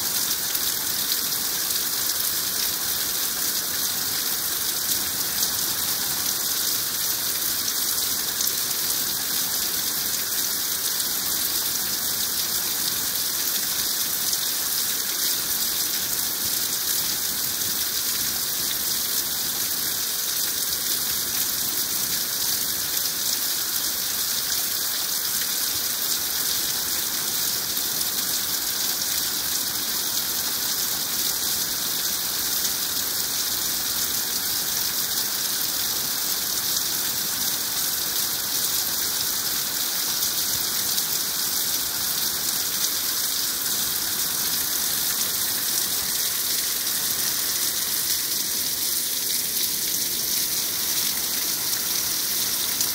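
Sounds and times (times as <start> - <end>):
heavy rain on trees and deck: 0.0 - 52.9.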